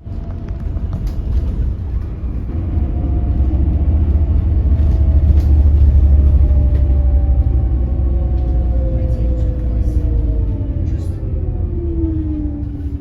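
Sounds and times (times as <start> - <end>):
bus low rumble: 0.0 - 13.0.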